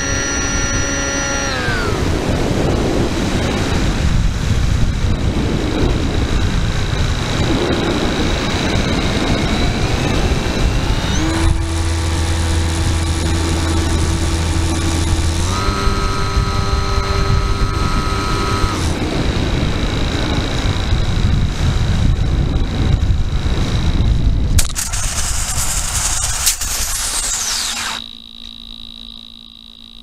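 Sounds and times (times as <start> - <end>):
electric motor whine: 0.0 - 24.0, 24.6 - 30.0
quadcopter propellers rushing: 0.0 - 28.1.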